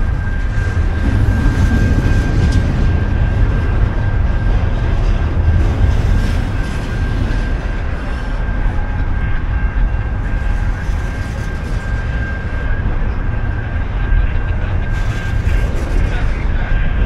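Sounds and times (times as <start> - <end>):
high whine: 0.0 - 17.0
train rumble: 0.0 - 17.0.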